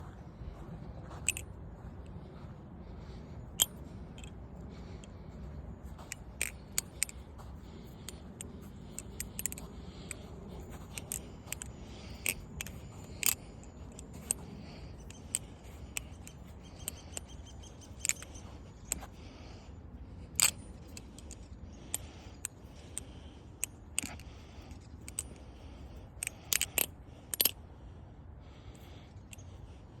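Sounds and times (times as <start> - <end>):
low background hum: 0.0 - 30.0.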